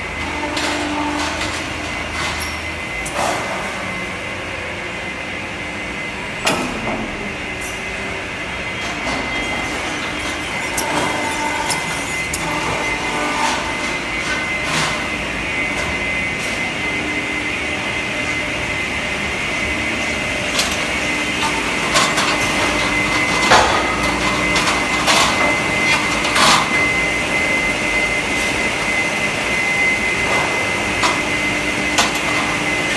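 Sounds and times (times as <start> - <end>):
machinery drone with high whine: 0.0 - 32.9.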